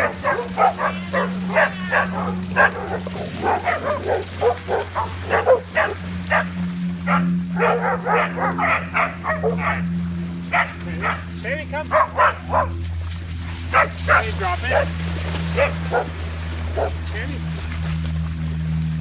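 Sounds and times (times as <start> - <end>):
dogs barking and yipping: 0.0 - 17.2.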